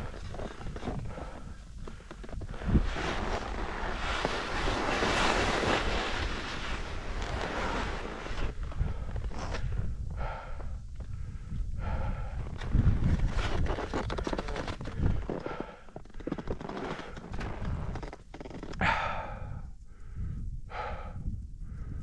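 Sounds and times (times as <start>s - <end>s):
wind buffeting microphone: 0.0s - 15.7s, 18.8s - 22.0s.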